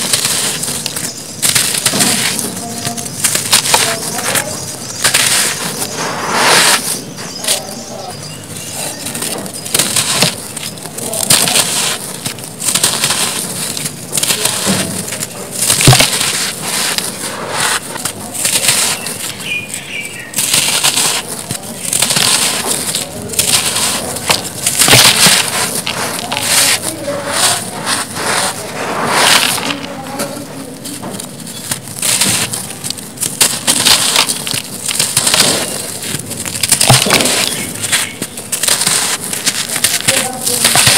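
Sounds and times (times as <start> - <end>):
hands crumbling cement grit: 0.0 - 40.9.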